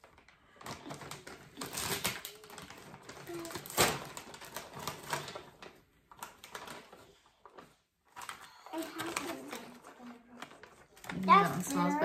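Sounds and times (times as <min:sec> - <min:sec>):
plastic snack bag crinkling: 0:00.0 - 0:12.0.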